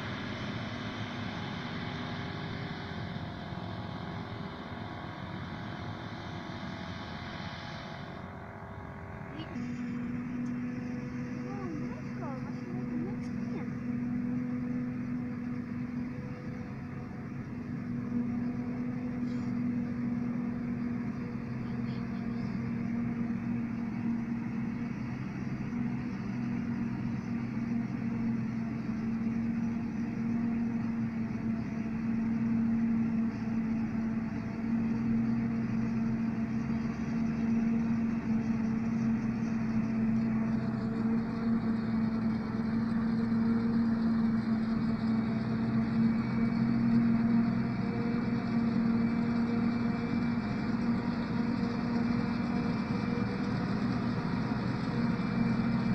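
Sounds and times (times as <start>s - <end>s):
tractor pulling trailer: 0.0s - 55.9s.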